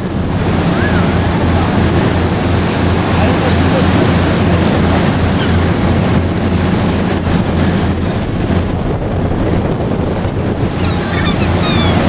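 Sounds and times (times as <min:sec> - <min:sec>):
boat engine humming: 0:00.0 - 0:12.0
water rushing: 0:00.0 - 0:12.0
wind buffeting microphone: 0:00.0 - 0:12.0.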